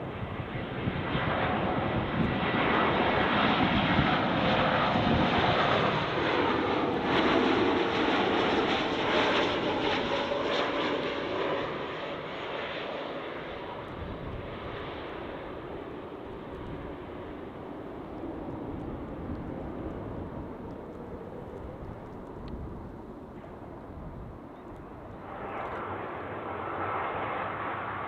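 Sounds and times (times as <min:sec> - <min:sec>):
airliner engine noise: 0:00.0 - 0:28.0.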